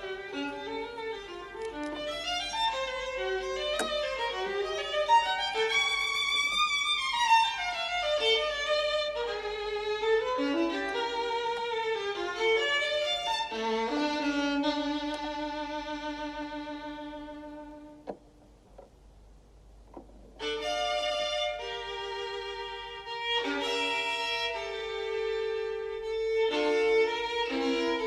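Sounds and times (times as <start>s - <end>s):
violin melody: 0.0s - 18.2s, 20.4s - 28.0s.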